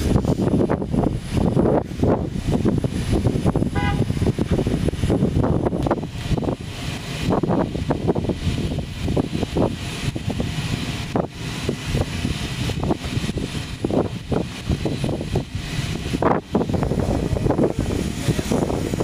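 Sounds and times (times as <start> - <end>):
low machinery rumble: 0.0 - 19.0
wind buffeting microphone: 0.0 - 19.0.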